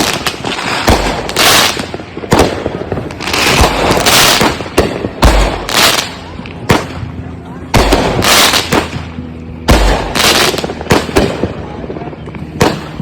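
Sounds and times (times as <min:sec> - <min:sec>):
firework booms: 0:00.0 - 0:07.1, 0:07.7 - 0:13.0
fireworks crackling and hissing: 0:00.0 - 0:13.0.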